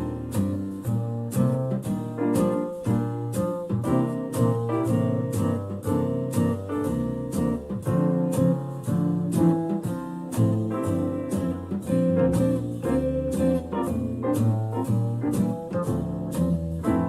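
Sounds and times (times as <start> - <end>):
instrumental music with a beat: 0.0 - 17.0.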